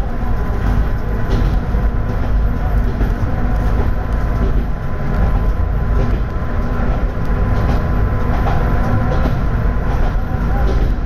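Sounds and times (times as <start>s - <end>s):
railcar engine and wheels rumbling: 0.0s - 11.0s.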